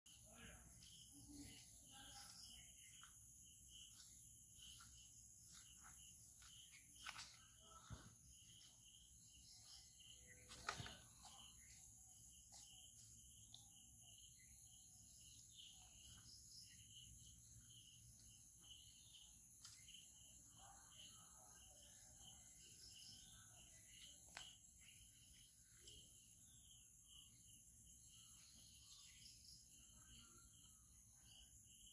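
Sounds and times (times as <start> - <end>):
insect chirping: 0.1 - 31.9
insect drone: 0.1 - 31.9.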